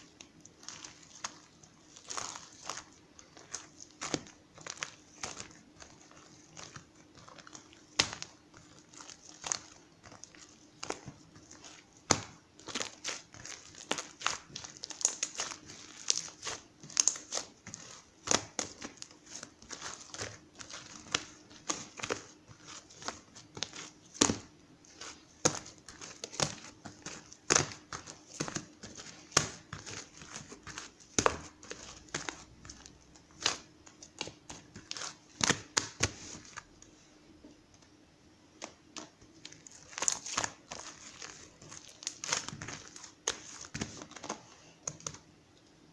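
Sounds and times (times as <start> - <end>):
crinkling and clicking handling noises: 0.0 - 38.0, 38.6 - 45.7
faint steady hum: 0.0 - 45.9.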